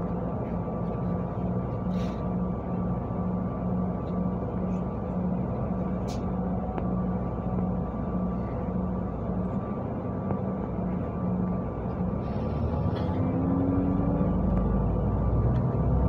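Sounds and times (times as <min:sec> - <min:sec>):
bus engine low rumble: 0:00.0 - 0:16.0.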